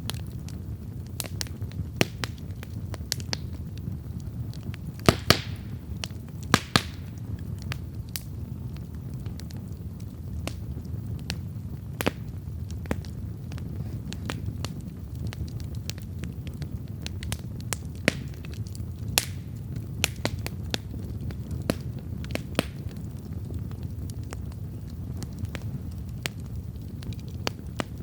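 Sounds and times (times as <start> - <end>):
campfire crackling: 0.0 - 28.0
low rumble of flames: 0.0 - 28.0.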